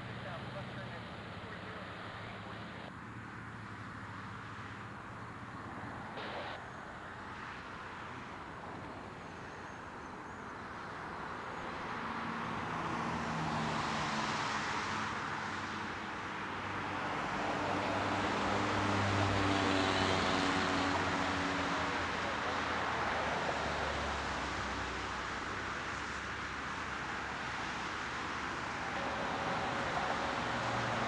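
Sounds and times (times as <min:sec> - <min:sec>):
road vehicles passing: 0:00.0 - 0:31.0.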